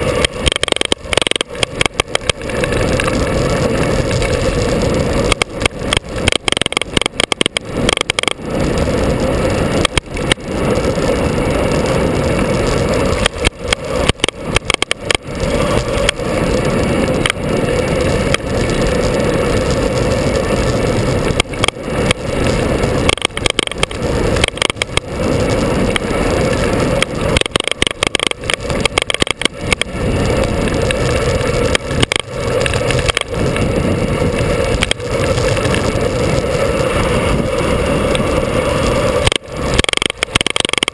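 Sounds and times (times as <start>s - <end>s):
vehicle engine running: 0.0s - 40.9s
wind: 0.0s - 40.9s.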